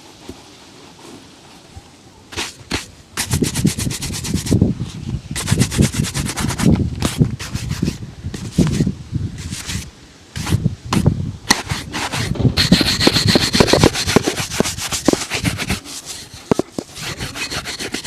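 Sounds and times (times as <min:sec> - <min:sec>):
shoe brush strokes: 0:00.0 - 0:18.0.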